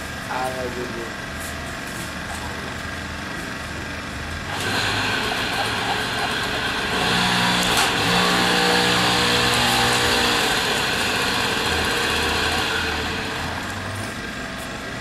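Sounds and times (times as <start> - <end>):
moped engine revving: 0.0 - 15.0.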